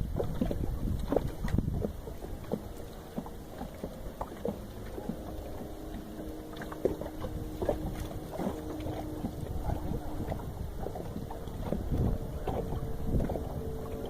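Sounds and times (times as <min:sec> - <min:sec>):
faint steady hum: 0:00.0 - 0:14.0
water lapping: 0:00.0 - 0:14.0
wind rumbling on microphone: 0:00.0 - 0:14.0.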